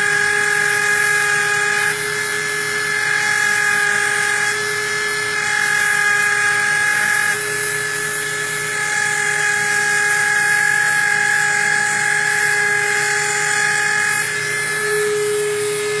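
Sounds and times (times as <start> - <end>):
rotary engraving tool whining: 0.0 - 16.0.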